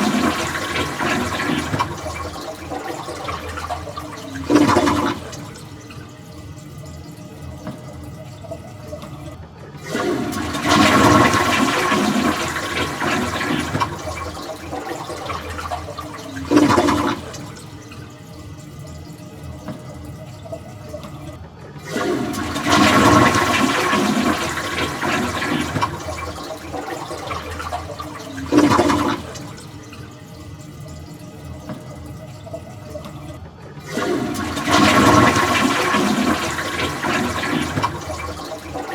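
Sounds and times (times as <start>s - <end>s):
toilet flushing: 0.0s - 38.9s
toilet tank refilling: 0.0s - 38.9s.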